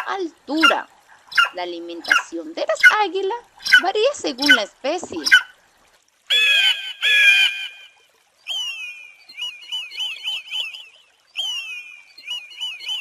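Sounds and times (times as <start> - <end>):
eagle calling: 0.0 - 5.6, 6.3 - 13.0.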